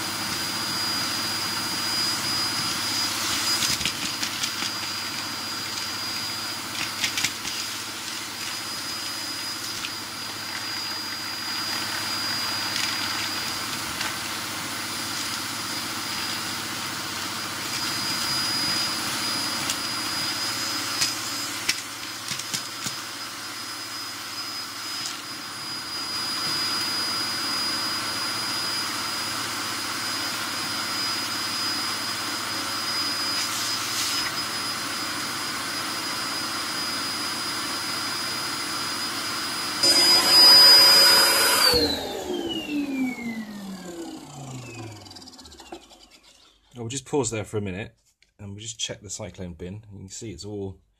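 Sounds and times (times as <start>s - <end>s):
vacuum cleaner whining: 0.0s - 46.9s.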